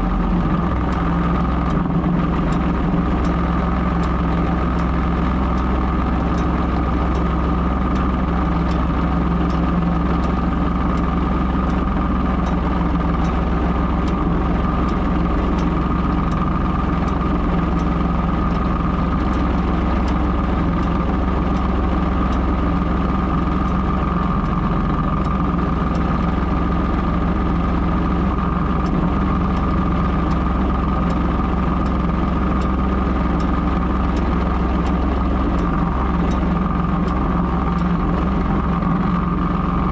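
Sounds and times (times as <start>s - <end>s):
tractor engine running steadily: 0.0s - 39.9s.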